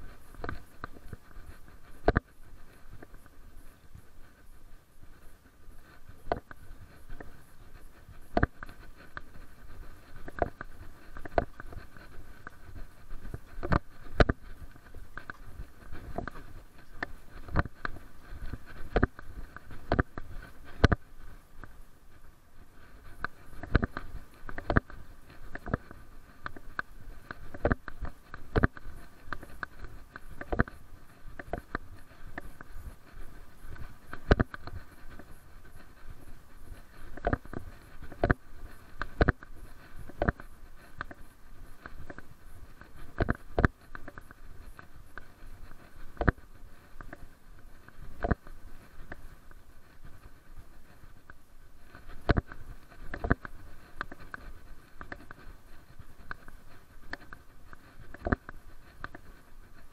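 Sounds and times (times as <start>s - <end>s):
faint camera rustling: 0.0s - 59.9s.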